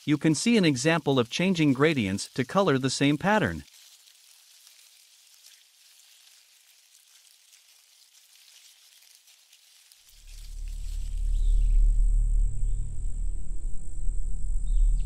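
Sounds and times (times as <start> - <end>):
faint crackling hiss: 0.0 - 15.0.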